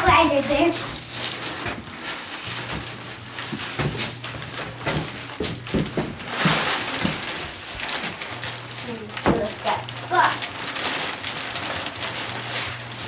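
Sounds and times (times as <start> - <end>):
plastic bag rustling and crinkling: 0.0 - 13.0
wood shavings scuffing on floor: 0.0 - 13.0.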